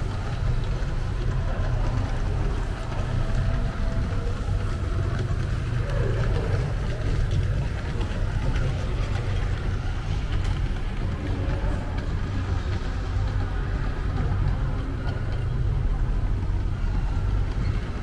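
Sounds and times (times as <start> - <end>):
model trains rumbling on track: 0.0 - 18.0.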